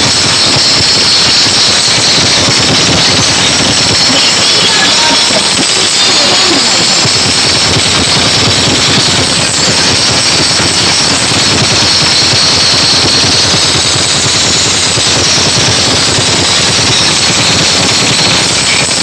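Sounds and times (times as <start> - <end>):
distorted bass music from speakers: 0.0 - 19.0.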